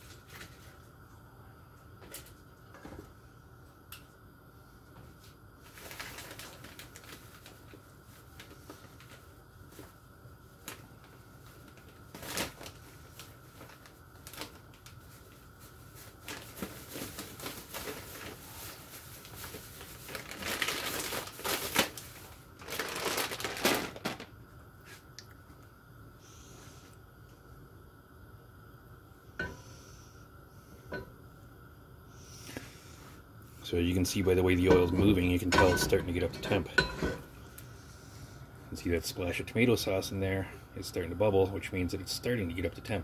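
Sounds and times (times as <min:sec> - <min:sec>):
crackling rustling noise: 0:00.0 - 0:01.2, 0:04.7 - 0:27.5, 0:32.1 - 0:43.0
faint steady high hum: 0:00.0 - 0:43.0.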